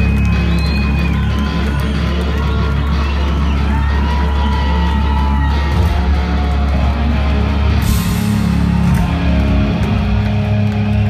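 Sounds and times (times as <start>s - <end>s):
drums: 0.0s - 11.0s
electric guitars: 0.0s - 11.0s.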